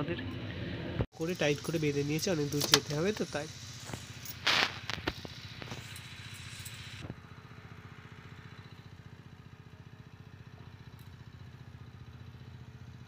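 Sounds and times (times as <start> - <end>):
small engine running: 1.2 - 13.0.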